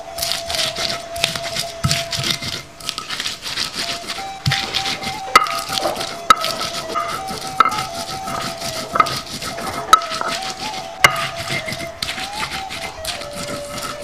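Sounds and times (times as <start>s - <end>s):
stone grinding chilies: 0.0s - 14.0s.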